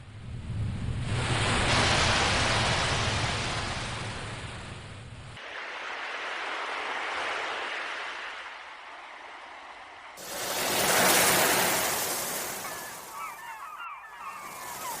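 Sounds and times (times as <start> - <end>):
sea waves washing in: 0.2 - 15.0.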